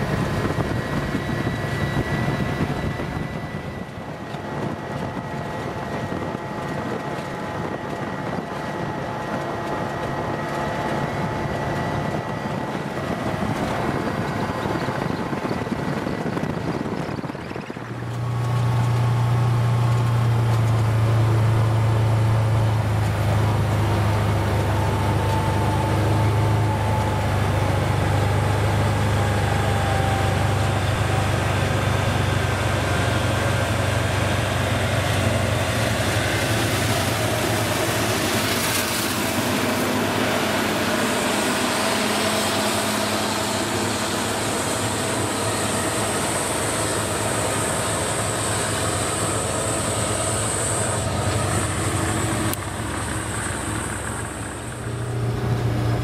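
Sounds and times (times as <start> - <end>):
tires on gravel road: 0.0 - 56.0
utv engine running: 0.0 - 56.0.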